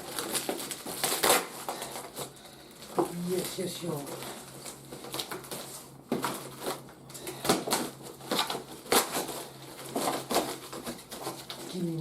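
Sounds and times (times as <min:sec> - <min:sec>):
toy packaging crackling: 0:00.0 - 0:12.0.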